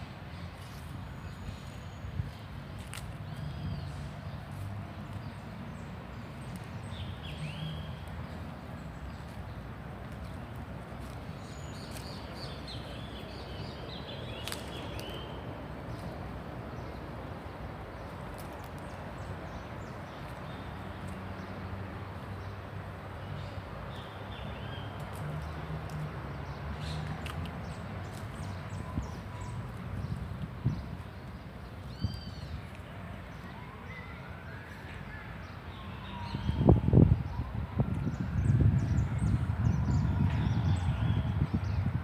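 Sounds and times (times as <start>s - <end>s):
city background rumble: 0.0s - 42.0s
small birds chirping: 0.2s - 36.8s.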